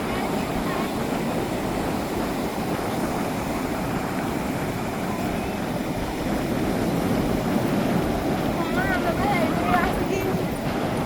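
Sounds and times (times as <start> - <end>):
surf breaking on shore: 0.0 - 11.0.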